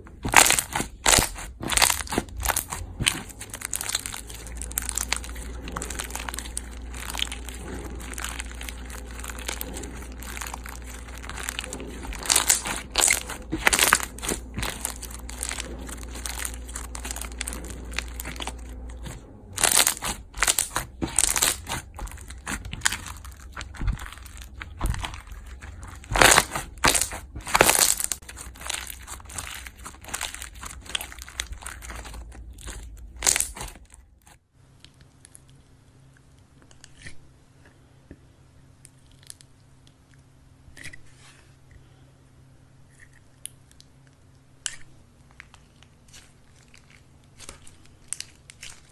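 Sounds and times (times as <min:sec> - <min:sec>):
slime crackling and popping: 0:00.1 - 0:35.7, 0:44.6 - 0:48.9.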